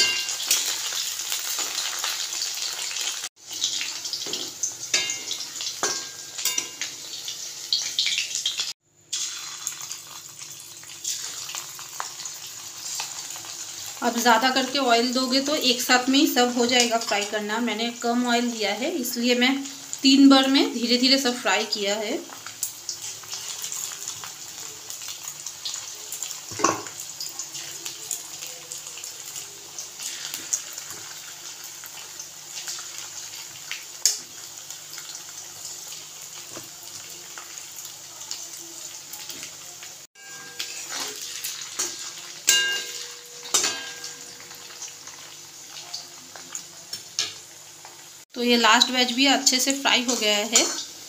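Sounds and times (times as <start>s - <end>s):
chicken deep-frying in oil: 0.0s - 51.0s.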